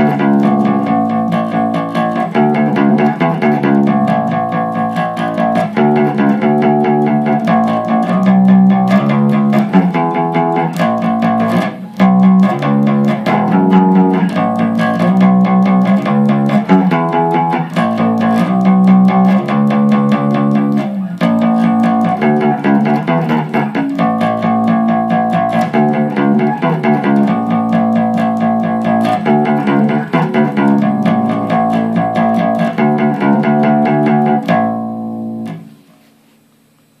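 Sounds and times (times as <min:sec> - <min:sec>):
electric bass guitar: 0:00.0 - 0:35.9.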